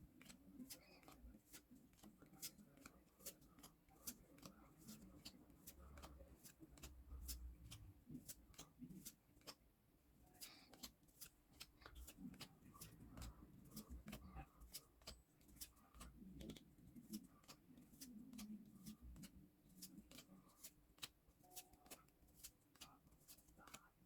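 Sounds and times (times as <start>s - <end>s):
cards rustling: 0.1s - 9.6s, 10.2s - 24.0s
trading cards clicking: 0.2s - 9.6s, 10.6s - 23.8s.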